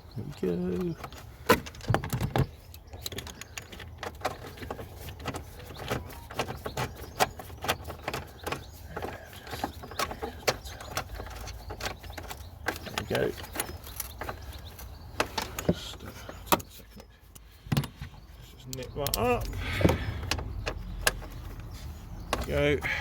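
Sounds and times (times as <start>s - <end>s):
hand tools clicking on a bolt: 0.2s - 18.0s, 18.6s - 22.7s.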